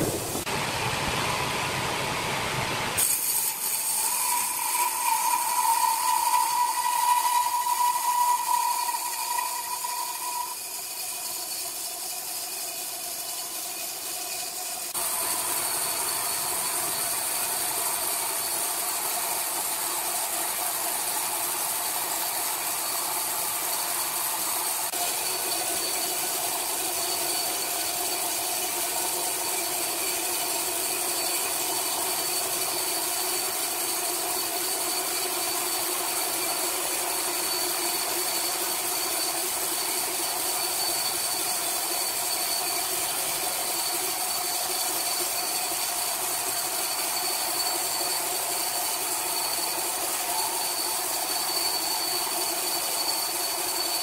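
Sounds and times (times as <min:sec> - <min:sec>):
band sawmill cutting log: 0:03.0 - 0:54.0.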